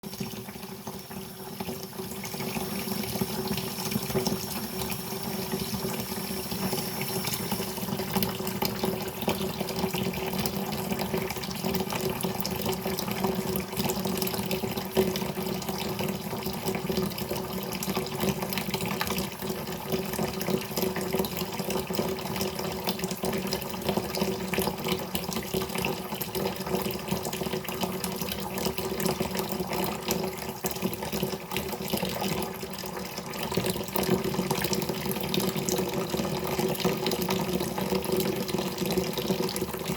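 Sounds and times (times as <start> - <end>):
water running: 0.0 - 39.9.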